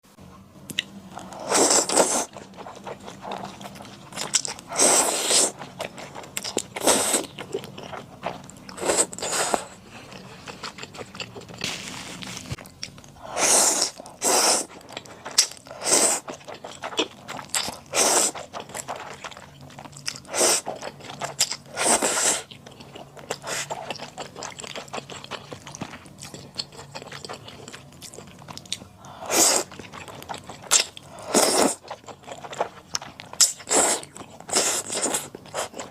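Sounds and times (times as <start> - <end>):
chewing noodles: 0.7 - 35.9.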